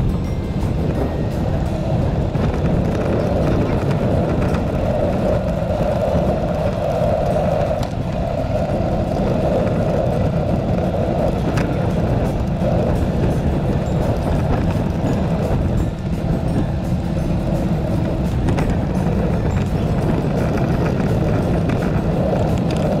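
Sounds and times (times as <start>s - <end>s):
road noise on paved path: 0.0s - 23.0s
wind rumble on microphone: 0.0s - 23.0s.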